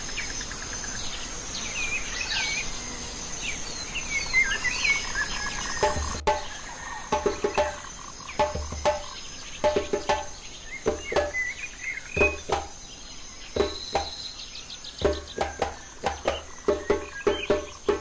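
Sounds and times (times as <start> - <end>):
crickets trilling: 0.0 - 18.0
frogs croaking: 0.0 - 18.0
bird chirps: 3.4 - 18.0.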